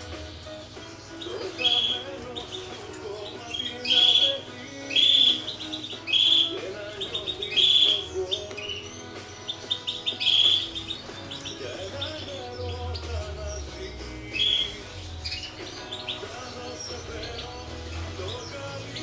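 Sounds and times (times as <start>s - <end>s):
bird twittering: 0.0s - 19.0s
quiet music: 0.0s - 19.0s
songbird chirping: 0.0s - 19.0s.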